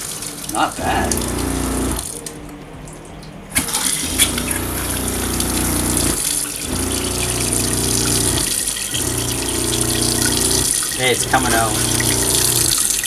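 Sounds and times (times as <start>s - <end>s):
water pump humming: 0.0s - 2.4s, 3.5s - 13.0s
water running from faucet: 0.0s - 2.4s, 3.5s - 13.0s.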